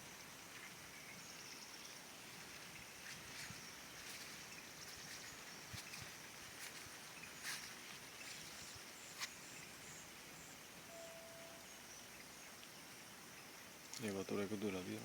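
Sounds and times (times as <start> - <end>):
insect chirping: 0.0 - 15.0
steady quiet hiss: 0.0 - 15.0.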